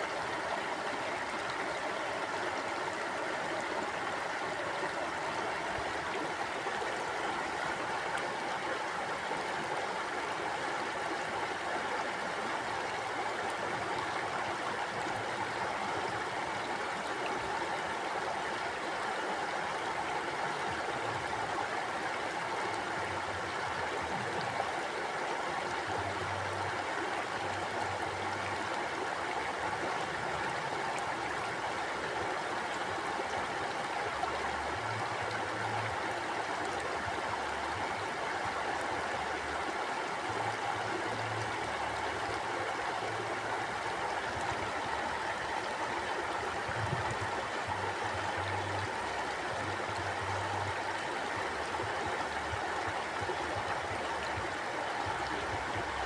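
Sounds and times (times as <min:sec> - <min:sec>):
river water gurgling over stones: 0:00.0 - 0:56.0.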